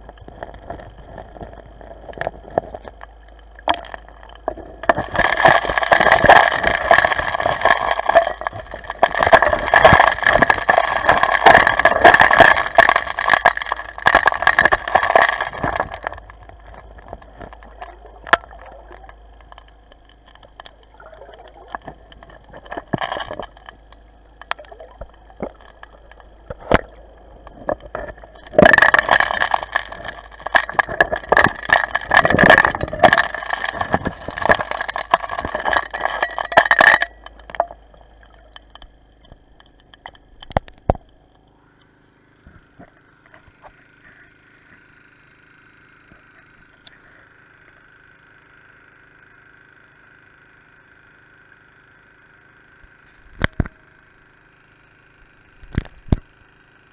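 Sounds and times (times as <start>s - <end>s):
high whine: 0.0s - 49.6s
underwater dredging crackle: 0.0s - 56.9s.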